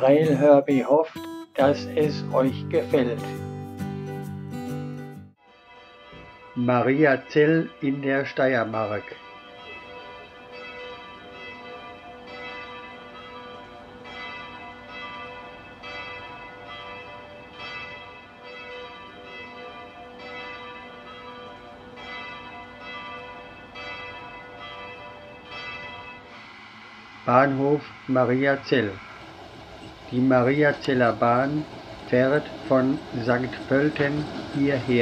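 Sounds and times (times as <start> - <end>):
church bells ringing: 0.0 - 26.5, 27.2 - 35.0.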